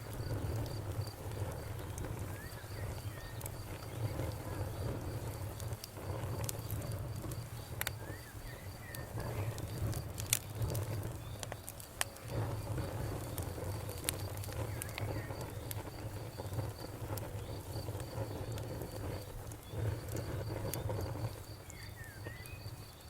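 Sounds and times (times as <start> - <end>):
campfire crackling: 0.0 - 23.0
insect chirping: 0.0 - 23.0.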